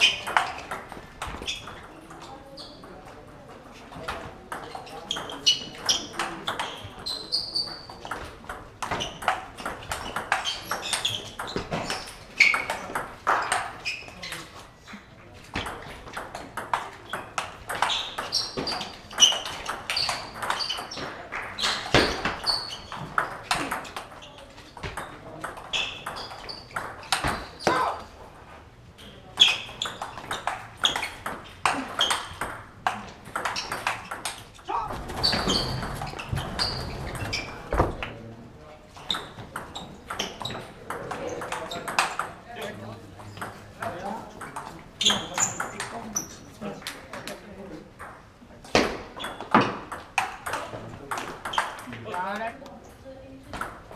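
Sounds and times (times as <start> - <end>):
table tennis ball pinging: 0.0 - 14.6, 15.5 - 28.1, 29.0 - 38.1, 39.0 - 42.5, 43.2 - 47.4, 48.0 - 52.2, 53.5 - 53.9.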